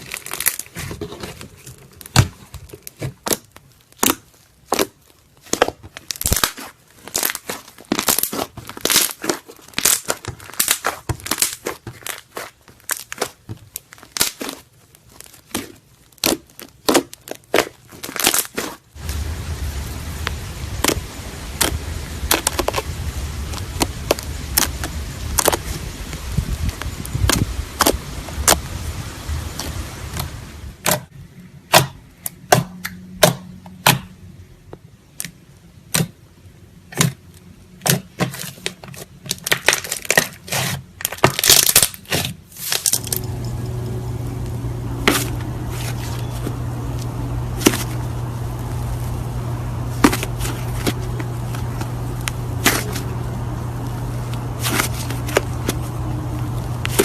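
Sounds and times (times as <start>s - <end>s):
slime popping and crackling: 0.0s - 31.1s, 37.8s - 57.0s.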